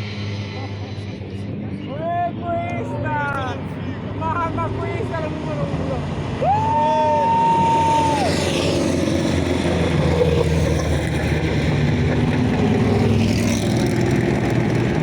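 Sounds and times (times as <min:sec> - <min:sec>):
rally car engine revving: 0:00.0 - 0:06.4, 0:07.2 - 0:15.0.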